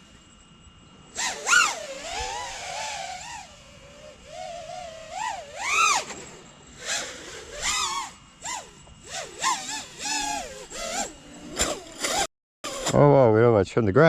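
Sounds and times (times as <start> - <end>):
drone motors whining: 0.0 - 13.1.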